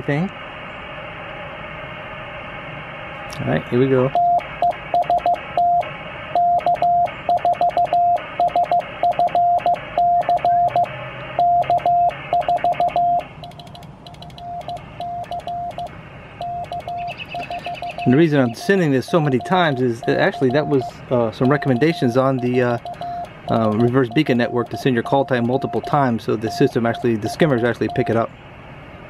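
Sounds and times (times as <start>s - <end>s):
morse code tone: 4.1s - 28.3s.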